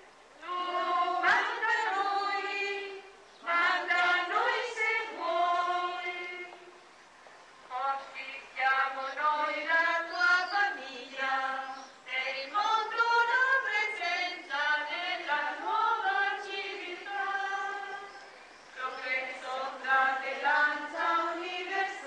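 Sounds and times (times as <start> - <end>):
group singing a hymn: 0.0 - 6.8, 7.7 - 22.0.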